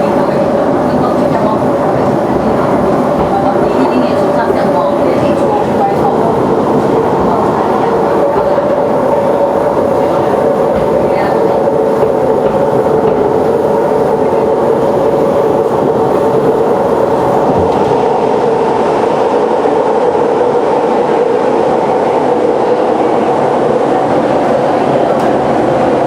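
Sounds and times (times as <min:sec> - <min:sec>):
train rail noise: 0:00.0 - 0:26.0.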